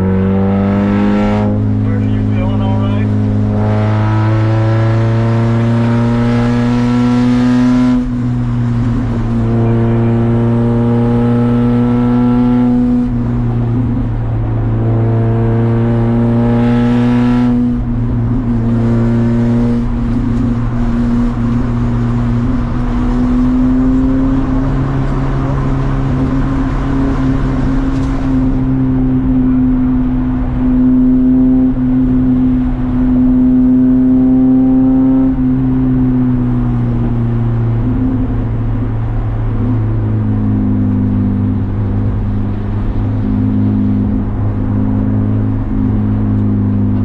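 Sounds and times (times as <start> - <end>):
race car engine accelerating: 0.0 - 47.0.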